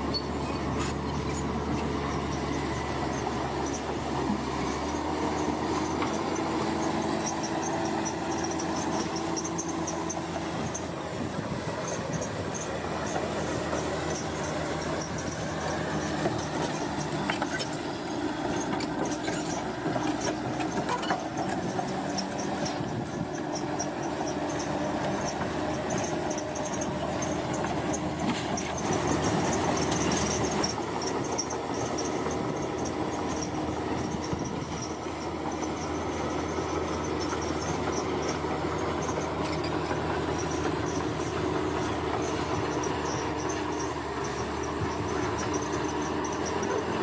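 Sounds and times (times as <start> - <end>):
bulldozer diesel engine: 0.0 - 47.0.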